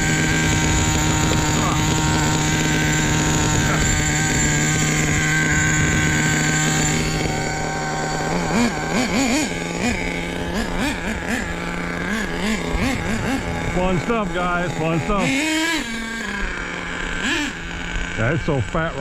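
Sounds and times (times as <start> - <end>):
rc truck engine revving: 0.0 - 19.0.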